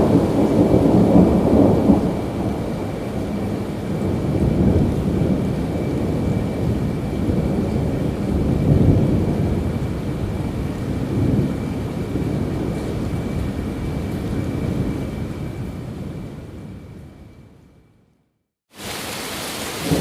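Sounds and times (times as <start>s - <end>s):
steady rain: 0.0s - 17.0s, 18.7s - 20.0s
rolling thunder: 0.0s - 17.6s, 19.8s - 20.0s.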